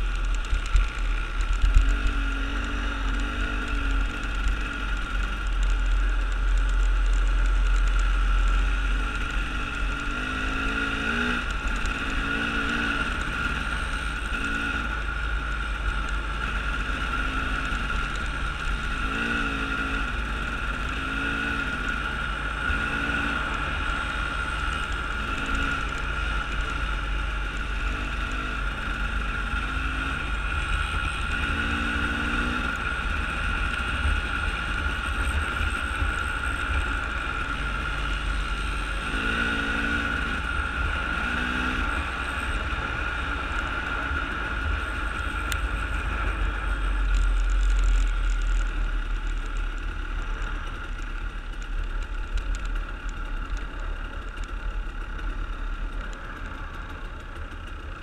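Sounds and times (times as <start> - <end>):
vehicle driving on gravel: 0.0 - 58.0.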